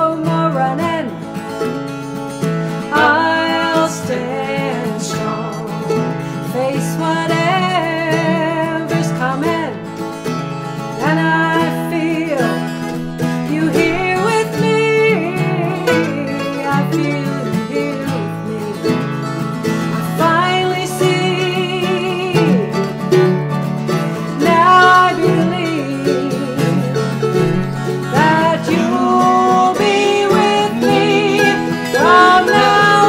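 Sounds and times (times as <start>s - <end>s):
woman singing with vibrato: 0.0s - 1.3s, 2.8s - 9.9s, 11.0s - 19.1s, 19.9s - 22.9s, 24.2s - 33.0s
acoustic guitar chords: 0.0s - 33.0s.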